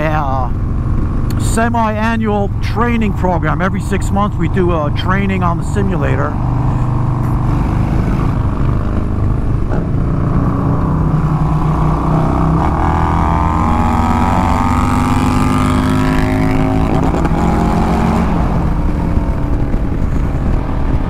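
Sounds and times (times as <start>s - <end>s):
motorcycles accelerating hard: 0.0s - 21.0s
wind rush: 2.8s - 21.0s.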